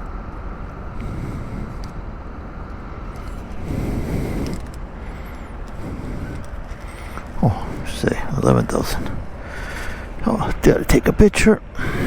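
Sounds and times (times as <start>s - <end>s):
wind on microphone: 0.0s - 10.2s
low vehicle rumble: 0.0s - 12.0s.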